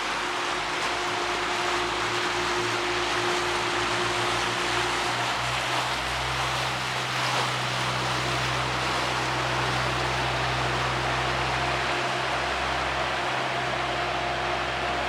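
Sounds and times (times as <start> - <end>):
diesel engine droning: 0.0 - 15.0
water wash rushing: 0.0 - 15.0
wind: 0.0 - 15.0.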